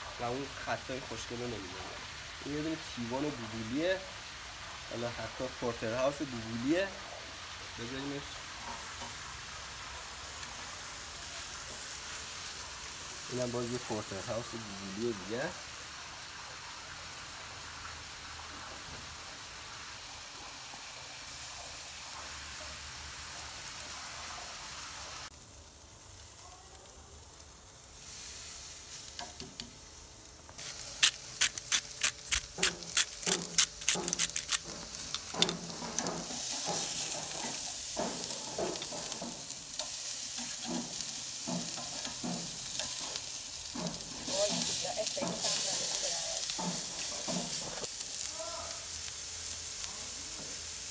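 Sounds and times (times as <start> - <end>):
steaks sizzling on a grill: 0.0 - 50.9.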